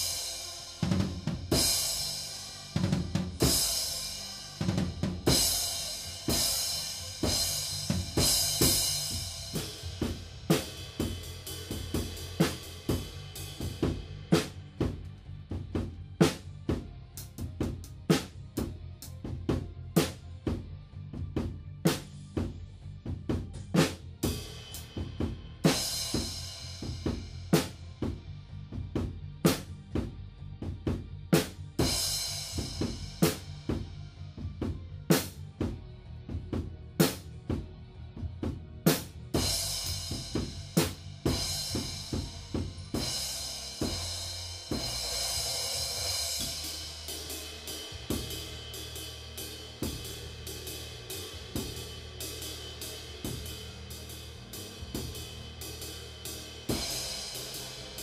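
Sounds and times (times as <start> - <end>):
drum kit playing: 0.0 - 58.0.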